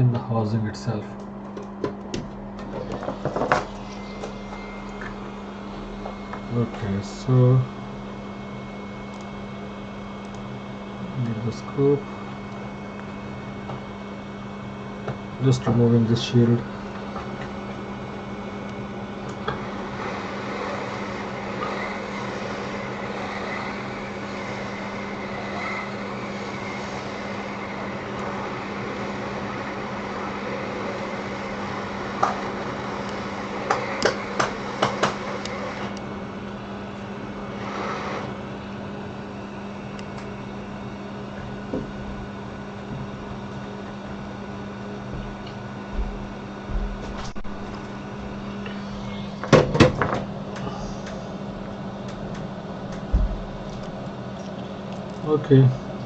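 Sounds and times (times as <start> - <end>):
bench equipment hum: 0.0 - 56.0.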